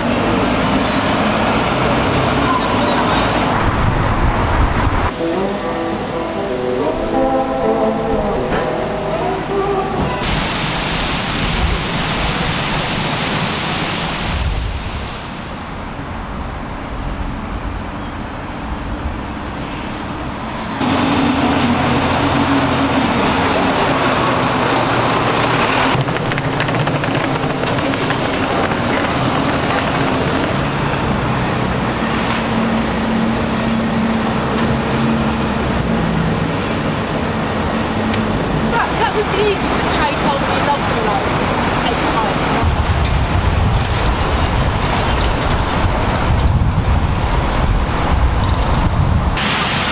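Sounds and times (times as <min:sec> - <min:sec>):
city traffic rushing: 0:00.0 - 0:49.9.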